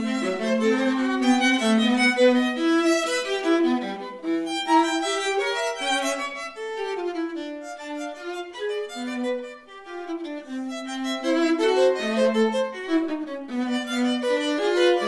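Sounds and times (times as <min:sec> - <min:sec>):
violin and viola duet: 0:00.0 - 0:15.0.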